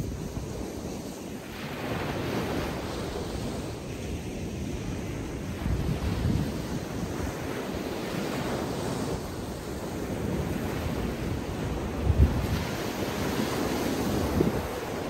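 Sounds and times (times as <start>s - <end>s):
surf washing up a beach: 0.0s - 15.0s
wind buffeting microphone: 0.0s - 15.0s.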